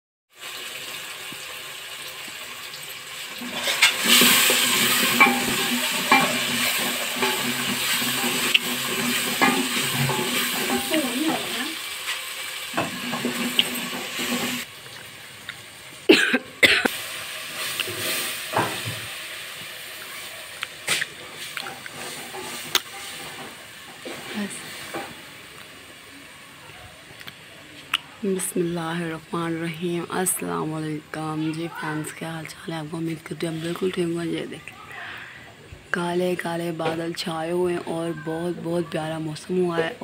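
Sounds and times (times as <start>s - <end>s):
food sizzling in oil: 0.3s - 26.7s, 27.7s - 34.6s.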